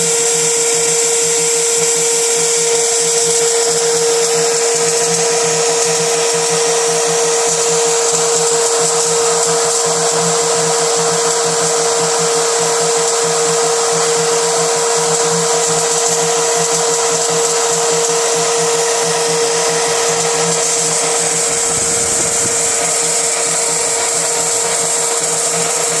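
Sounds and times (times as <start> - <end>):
high whine: 0.0 - 26.0
machine spindle humming: 0.0 - 26.0.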